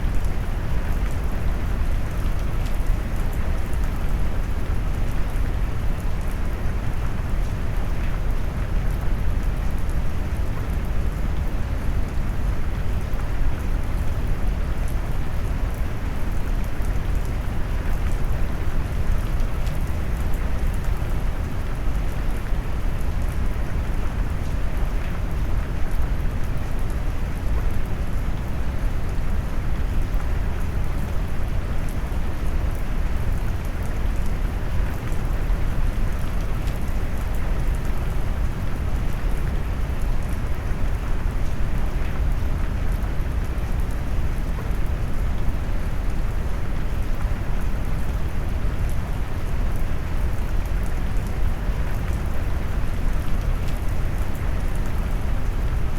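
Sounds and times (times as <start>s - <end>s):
faint raindrop ticks: 0.0s - 55.8s
deep steady rain noise: 0.0s - 55.9s.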